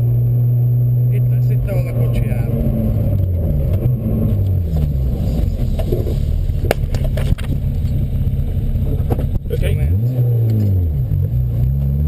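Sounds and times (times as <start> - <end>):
car engine driven hard: 0.0 - 12.0.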